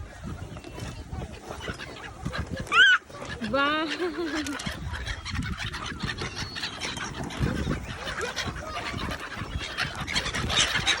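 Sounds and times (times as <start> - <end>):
chickens clucking and squealing: 0.0 - 11.0.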